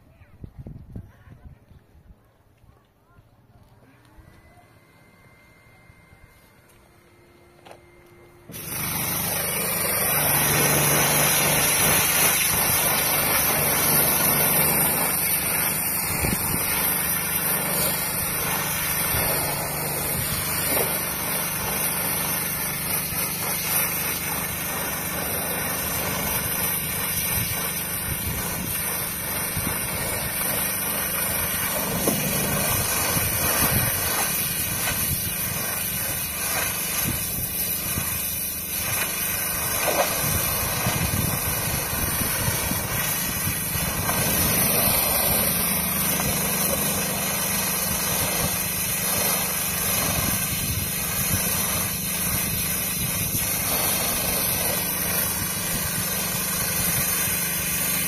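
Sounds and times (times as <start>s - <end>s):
pressure washer machine hum: 3.8s - 58.0s
water spray hissing: 8.5s - 58.0s.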